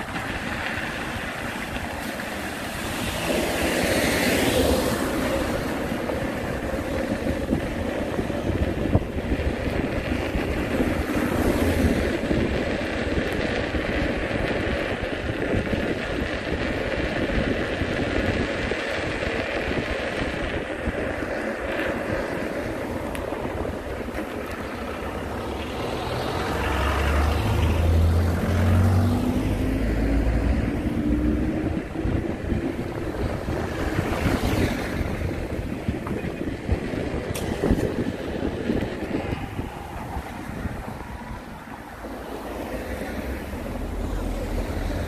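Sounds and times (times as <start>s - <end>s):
road rumble while riding: 0.0s - 45.0s
wind on microphone: 0.0s - 45.0s.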